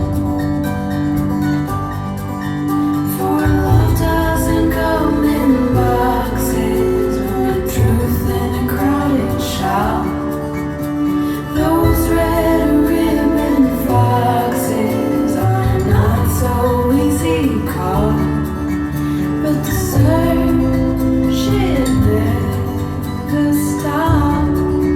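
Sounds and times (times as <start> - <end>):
pop song with female singer: 2.0 - 24.9.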